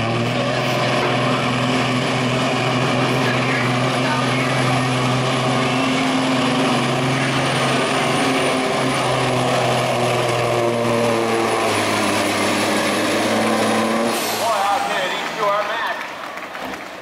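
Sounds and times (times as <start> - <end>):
diesel truck engine under load: 0.0 - 17.0.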